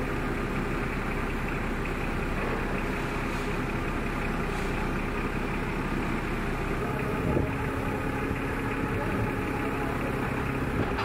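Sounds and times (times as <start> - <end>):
forklift engine humming: 0.0 - 11.0.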